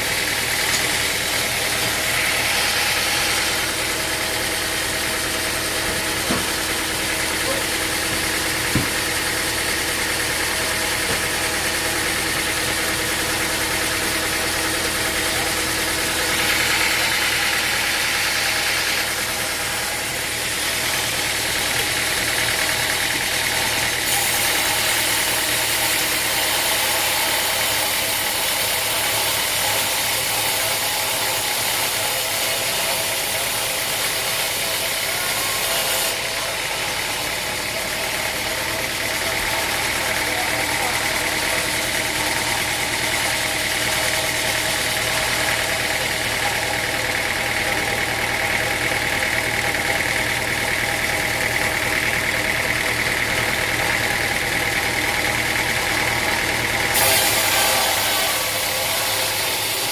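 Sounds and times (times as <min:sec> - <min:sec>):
engine drone: 0:00.0 - 0:27.0, 0:32.6 - 0:59.9.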